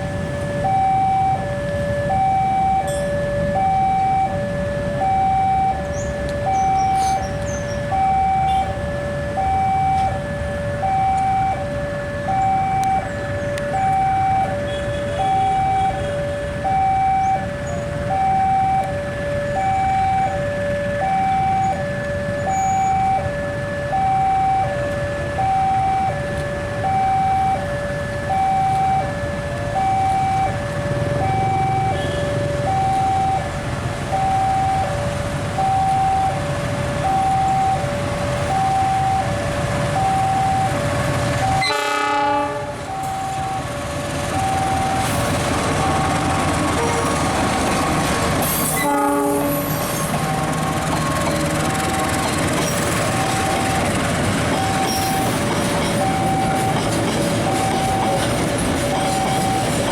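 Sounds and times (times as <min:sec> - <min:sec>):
low traffic rumble: 0:00.0 - 0:59.9
two-tone crossing alarm: 0:00.0 - 0:59.9.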